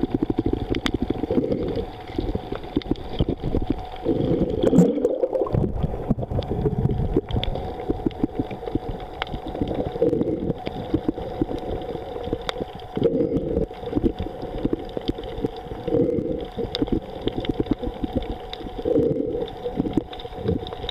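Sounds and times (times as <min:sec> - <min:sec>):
faint steady hum: 0:00.0 - 0:20.9
water rushing underwater: 0:00.0 - 0:20.9.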